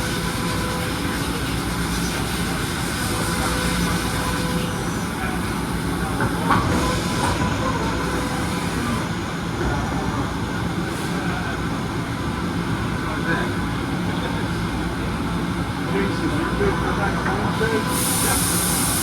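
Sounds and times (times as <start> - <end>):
industrial machinery running: 0.0 - 19.0.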